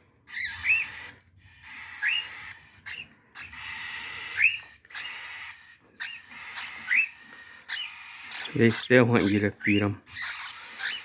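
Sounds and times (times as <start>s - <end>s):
cockatiel chicks begging calls: 0.0s - 11.0s.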